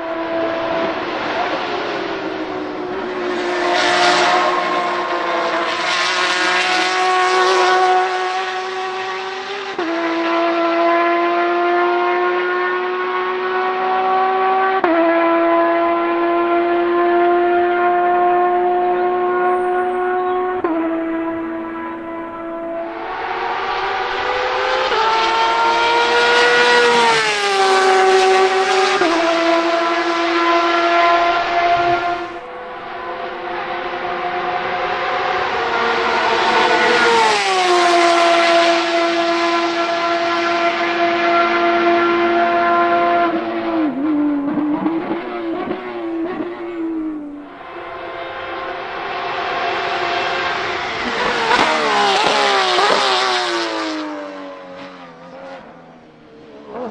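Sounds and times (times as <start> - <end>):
race car engine accelerating: 0.0 - 56.9.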